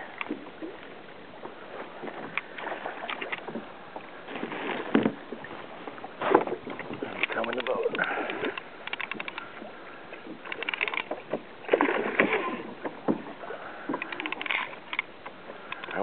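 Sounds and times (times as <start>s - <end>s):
water splashing against kayak: 0.0s - 16.0s.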